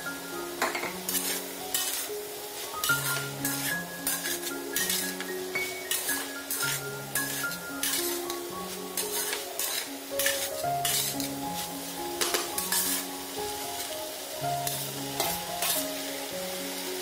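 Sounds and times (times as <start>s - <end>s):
food sizzling in a wok: 0.0s - 17.0s
light background music: 0.0s - 17.0s
metal spatula scraping wok: 0.6s - 16.8s.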